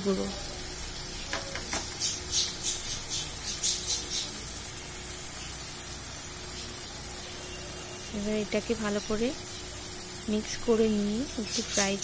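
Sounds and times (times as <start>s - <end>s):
onions frying in oil: 0.0s - 12.0s.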